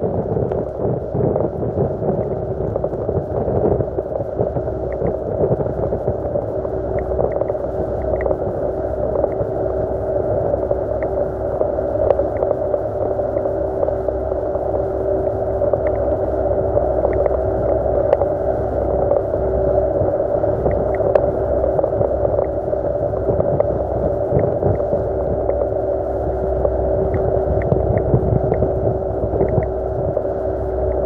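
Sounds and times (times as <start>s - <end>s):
outboard motor droning: 0.0s - 31.0s.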